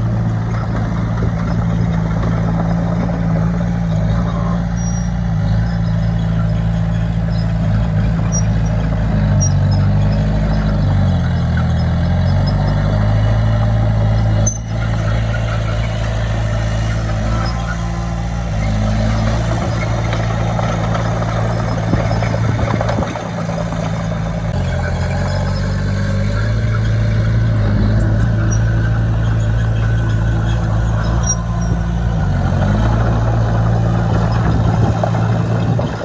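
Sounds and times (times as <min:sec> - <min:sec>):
bulldozer diesel engine working: 0:00.0 - 0:36.0
clatter: 0:00.0 - 0:36.0.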